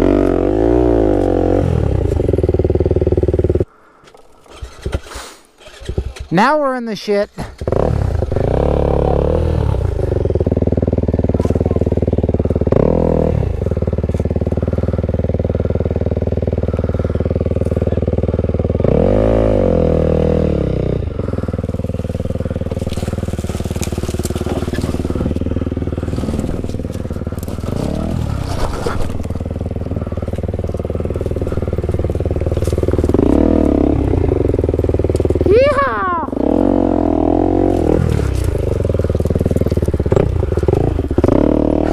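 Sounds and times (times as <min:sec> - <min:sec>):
clatter and scraping on terrain: 0:00.0 - 0:19.1, 0:21.0 - 0:41.9
dirt bike engine: 0:00.0 - 0:41.9.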